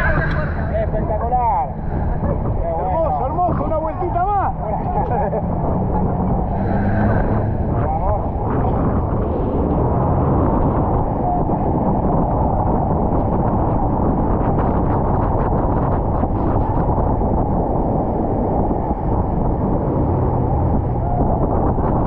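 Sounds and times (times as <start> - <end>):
boat engine drone: 0.0 - 22.0
wind buffeting microphone: 0.0 - 22.0.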